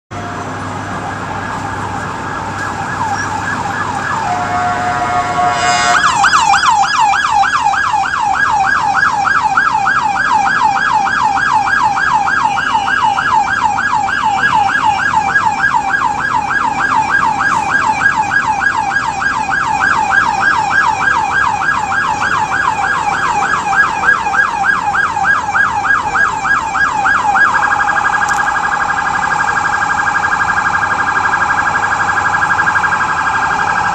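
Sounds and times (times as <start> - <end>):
police siren wailing and yelping: 0.1 - 33.9.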